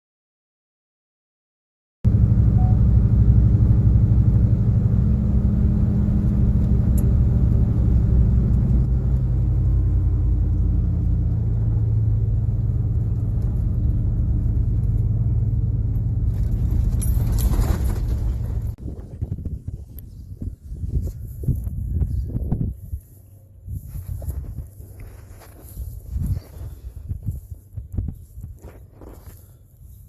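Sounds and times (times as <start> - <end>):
heavy engine rumbling: 2.1 - 28.3.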